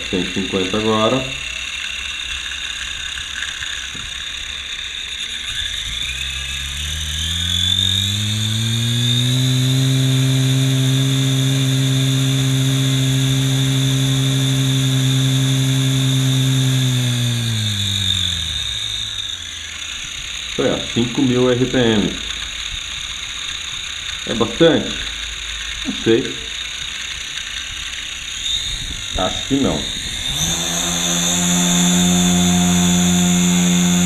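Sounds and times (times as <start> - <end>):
toy drone propellers whirring: 0.0 - 34.0.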